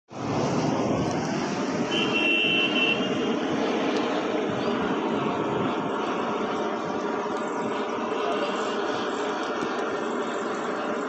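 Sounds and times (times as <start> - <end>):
loud machine roar: 0.1 - 11.0.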